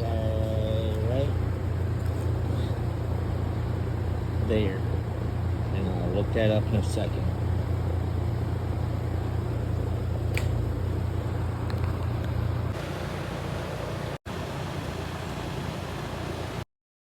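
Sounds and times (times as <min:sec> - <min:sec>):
steady background noise: 0:00.0 - 0:16.6
low mechanical hum: 0:00.0 - 0:16.7.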